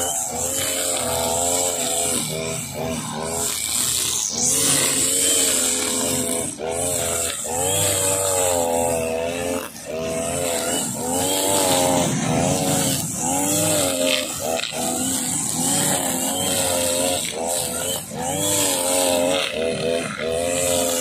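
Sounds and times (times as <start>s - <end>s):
brush cutter engine revving: 0.0s - 21.0s
trimmer line hissing through grass: 0.0s - 21.0s.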